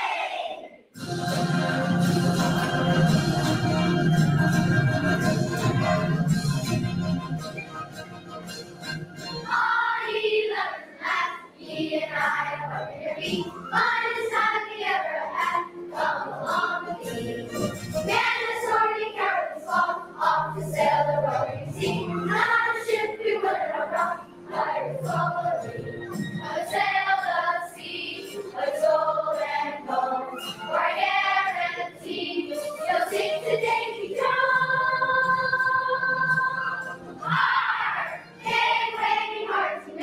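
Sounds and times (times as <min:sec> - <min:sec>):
children's choir singing: 0:00.0 - 0:07.5, 0:09.2 - 0:40.0
musical accompaniment: 0:00.0 - 0:40.0.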